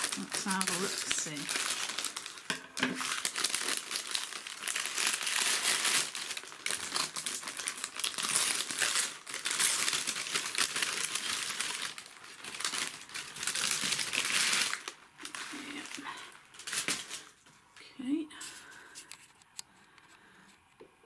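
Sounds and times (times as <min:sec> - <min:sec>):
packing paper crinkling: 0:00.0 - 0:17.7.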